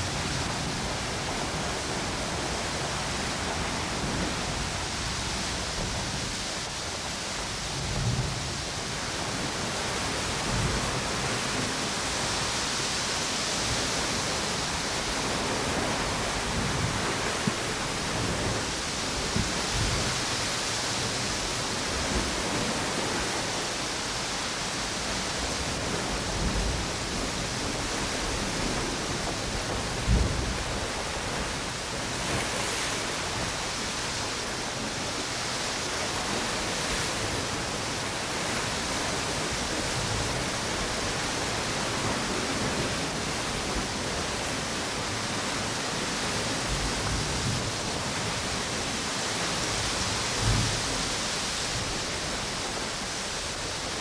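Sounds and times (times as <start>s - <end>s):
ocean waves washing onto beach: 0.0s - 54.0s
wind through palm trees: 0.0s - 54.0s.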